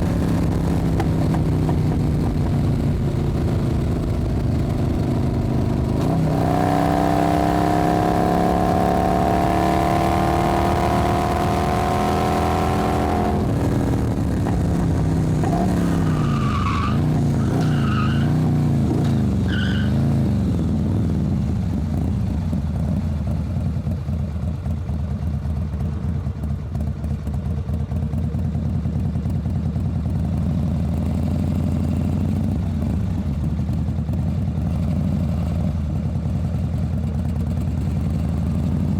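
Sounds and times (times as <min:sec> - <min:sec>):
motorcycle engine revving and idling: 0:00.0 - 0:38.9.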